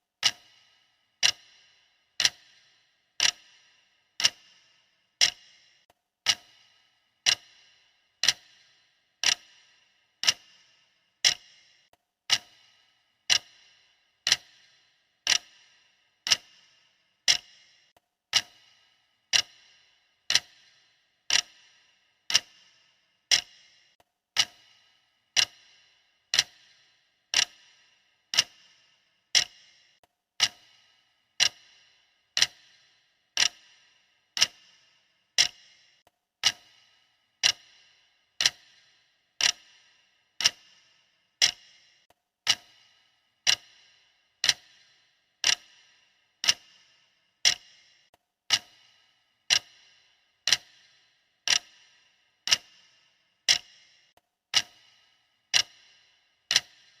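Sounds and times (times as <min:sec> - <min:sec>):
clock ticking: 0:00.2 - 0:57.0.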